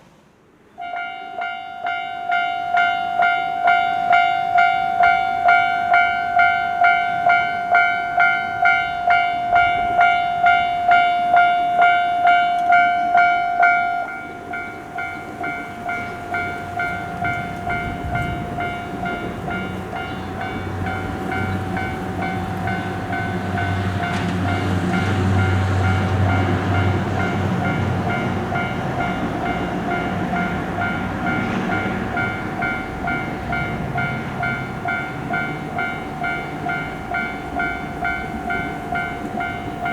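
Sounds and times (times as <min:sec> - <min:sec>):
train passing: 0:00.0 - 0:39.9
level crossing bell ringing: 0:00.8 - 0:39.9.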